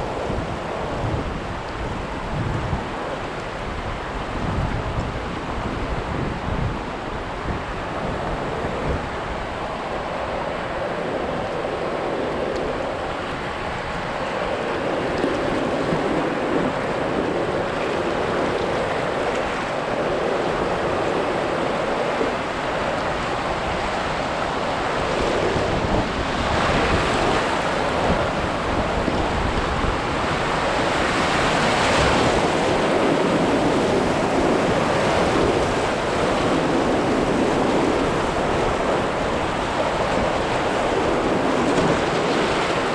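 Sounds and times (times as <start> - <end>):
river rapids rushing and splashing: 0.0 - 42.9
wind buffeting microphone: 0.0 - 42.9.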